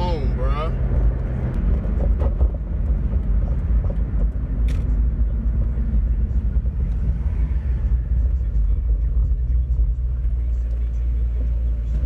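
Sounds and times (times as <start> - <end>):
car exhaust deep rumble: 0.0 - 12.0.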